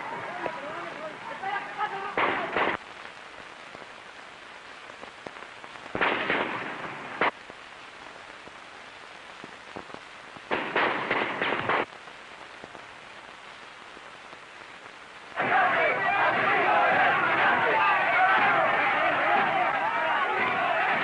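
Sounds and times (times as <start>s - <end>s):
crackling noise bursts: 0.0s - 21.0s
old film soundtrack hiss: 0.0s - 21.0s.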